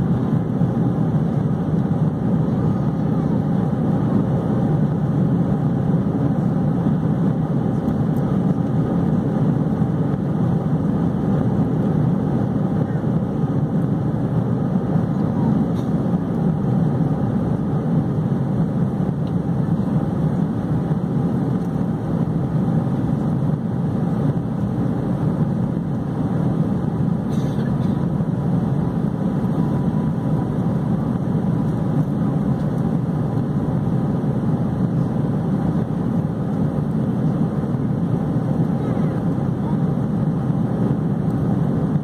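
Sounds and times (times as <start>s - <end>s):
airplane cabin engine roar: 0.0s - 42.0s.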